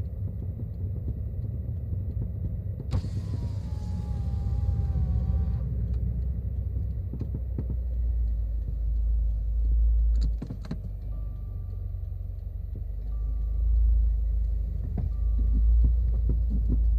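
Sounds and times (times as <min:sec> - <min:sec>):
car road rumble: 0:00.0 - 0:16.9.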